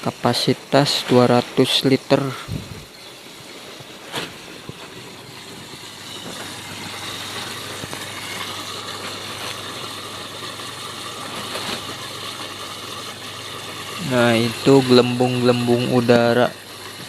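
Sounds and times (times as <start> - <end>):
air pump humming: 0.0 - 17.0.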